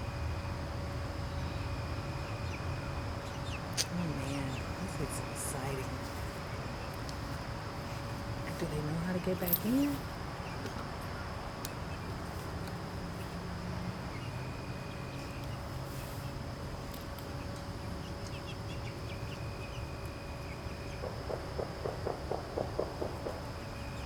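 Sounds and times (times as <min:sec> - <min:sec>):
insects singing: 0:00.0 - 0:24.0.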